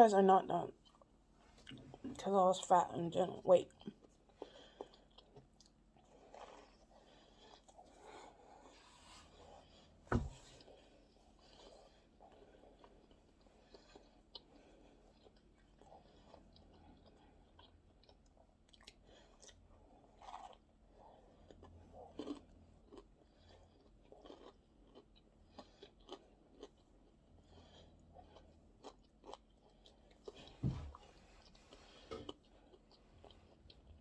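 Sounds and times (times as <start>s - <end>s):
person chewing food: 0.7s - 2.2s, 3.6s - 34.0s.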